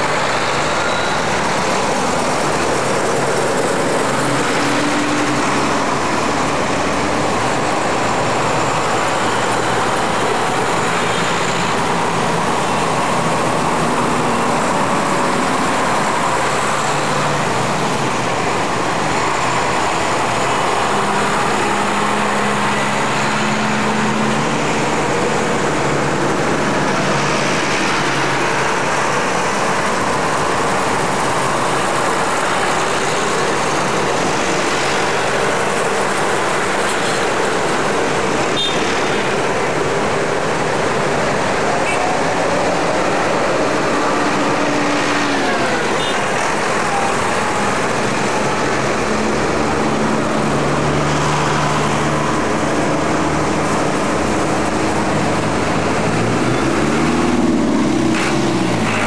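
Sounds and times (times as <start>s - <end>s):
vehicles driving past: 0.0s - 59.0s.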